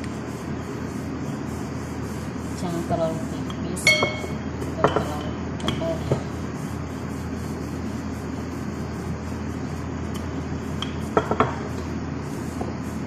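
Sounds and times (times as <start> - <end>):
background hiss and hum: 0.0 - 13.0
rolling pin rolling dough: 0.0 - 13.0.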